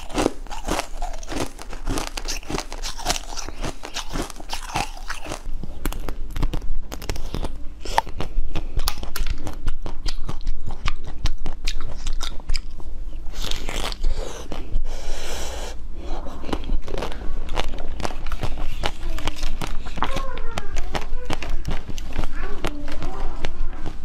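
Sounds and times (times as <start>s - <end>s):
crunching chocolate balls: 0.0s - 24.0s.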